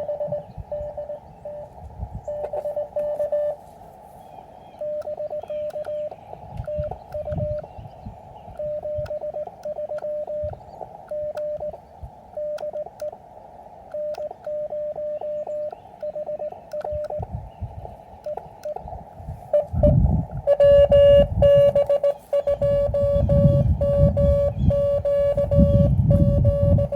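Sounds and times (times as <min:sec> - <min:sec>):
scattered clicks: 0:00.0 - 0:03.6, 0:04.8 - 0:07.8, 0:08.5 - 0:17.3, 0:18.2 - 0:26.9
morse code tone: 0:00.0 - 0:03.7, 0:04.8 - 0:07.9, 0:08.5 - 0:13.2, 0:13.9 - 0:17.3, 0:18.2 - 0:26.9
radio band hiss: 0:00.0 - 0:26.9.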